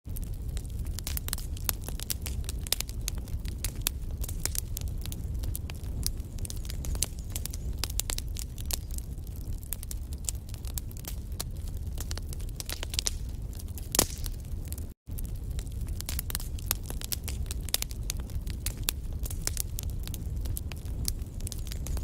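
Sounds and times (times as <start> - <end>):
low rumble of flames: 0.0 - 22.0
wood fire crackling: 0.1 - 22.0.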